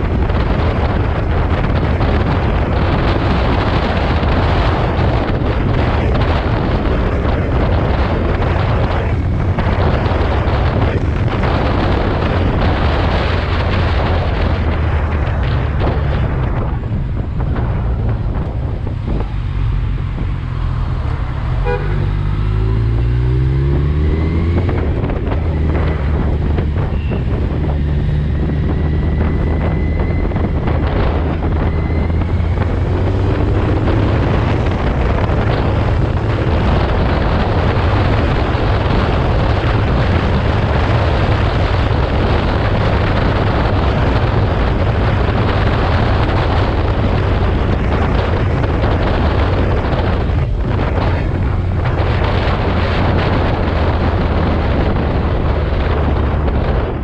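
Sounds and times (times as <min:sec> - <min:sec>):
motorcycle engine accelerating: 0:00.0 - 0:57.0
wind over microphone: 0:00.0 - 0:57.0.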